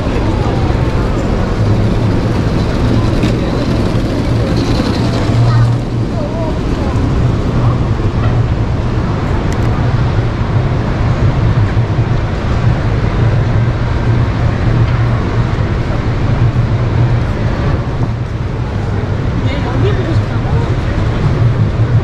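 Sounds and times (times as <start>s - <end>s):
exhibition hall ambience rumble: 0.0s - 22.0s
strong low hum: 0.0s - 22.0s.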